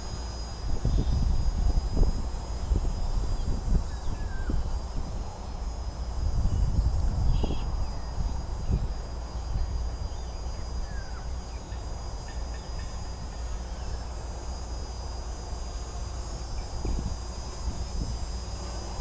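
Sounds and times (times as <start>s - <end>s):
high-pitched whine: 0.0s - 19.0s
wind rumbling on microphone: 0.0s - 19.0s.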